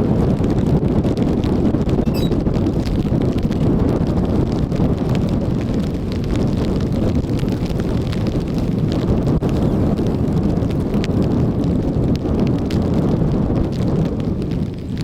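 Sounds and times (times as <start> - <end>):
raindrops ticking on a tarp: 0.0 - 15.0
wind buffeting microphone: 0.0 - 15.0.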